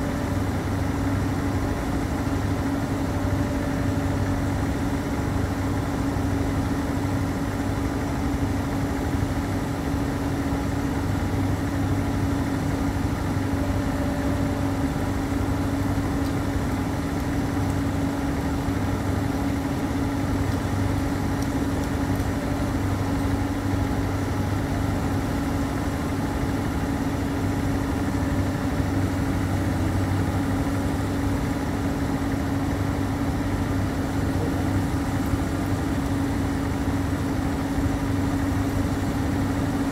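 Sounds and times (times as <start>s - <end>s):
excavator engine and hydraulics droning: 0.0s - 39.9s.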